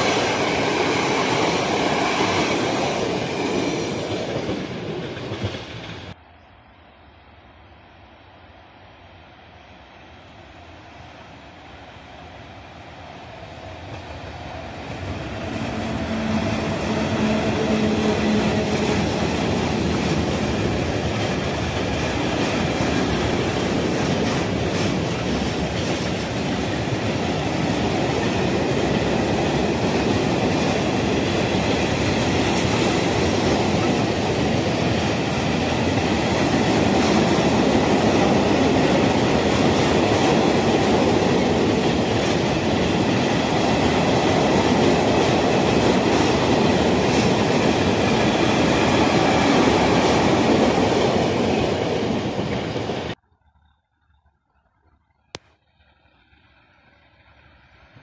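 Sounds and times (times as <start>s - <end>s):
electric locomotive humming: 0.0s - 58.0s.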